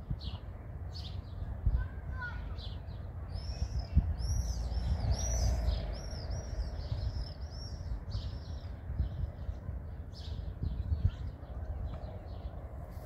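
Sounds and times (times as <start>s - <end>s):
steady low rumble: 0.0s - 13.0s
small songbird chirping: 0.1s - 12.9s.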